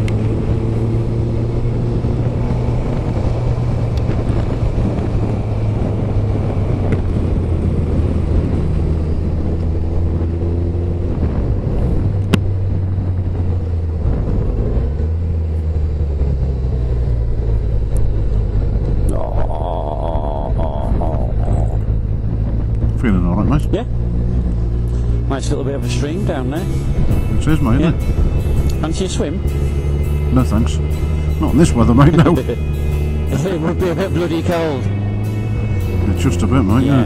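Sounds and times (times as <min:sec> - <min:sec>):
motorcycle engine running: 0:00.0 - 0:37.0
wind: 0:00.0 - 0:37.0.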